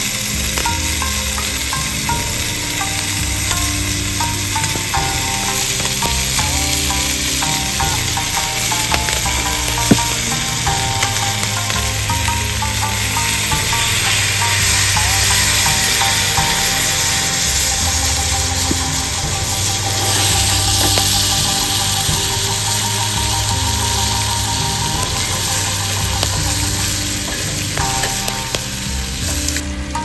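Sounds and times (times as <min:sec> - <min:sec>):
food sizzling: 0:00.0 - 0:30.0
plucked background music: 0:00.0 - 0:30.0.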